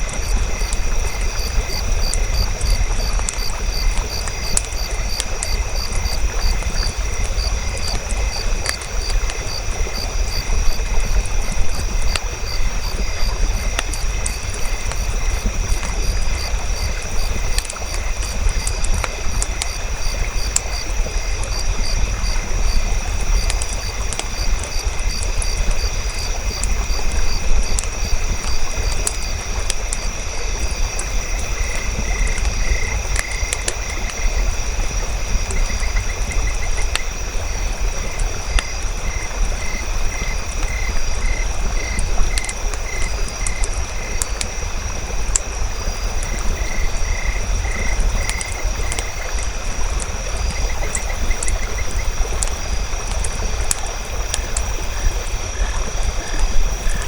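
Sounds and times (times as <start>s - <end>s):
campfire crackling and popping: 0.0s - 57.0s
fire rumbling: 0.0s - 57.0s
insects chirping: 0.0s - 57.0s.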